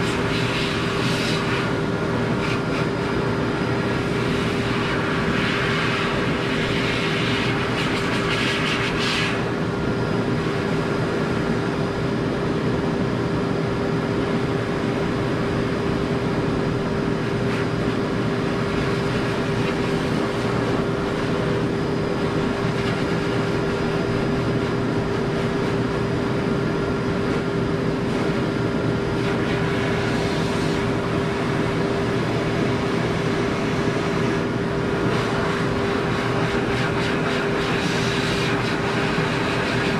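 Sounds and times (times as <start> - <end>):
pet dryer blower running: 0.0 - 39.9.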